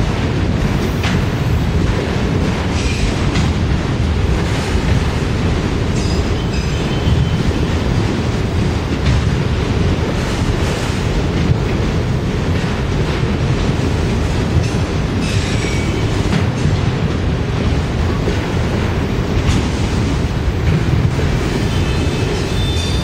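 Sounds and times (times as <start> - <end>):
train clacks: 0.0 - 23.0
train wheels rumbling on rail: 0.0 - 23.0.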